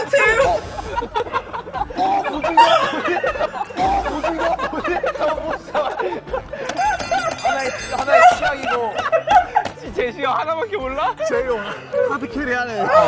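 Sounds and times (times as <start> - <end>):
people laughing: 0.0 - 13.0
voices chattering: 0.0 - 13.0.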